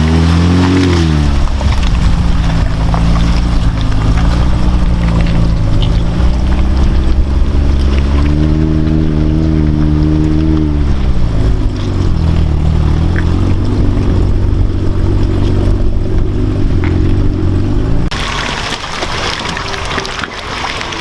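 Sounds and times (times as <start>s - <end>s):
truck engine running: 0.0s - 18.4s
loud rushing splashing noise: 0.0s - 21.0s.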